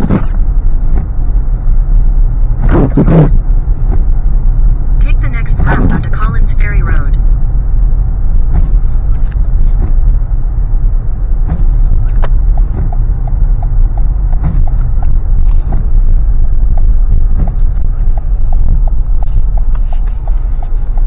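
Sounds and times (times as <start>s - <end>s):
road and engine rumble: 0.0s - 21.0s
turn signal ticking: 0.0s - 21.0s.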